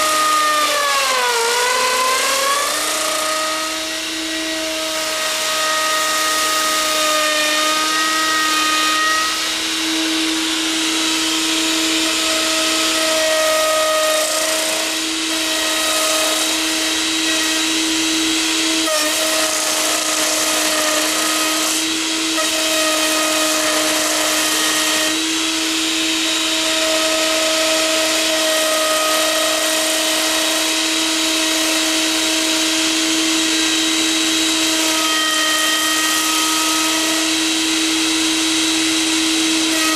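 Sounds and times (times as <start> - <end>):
router whining cutting wood: 0.0 - 39.9.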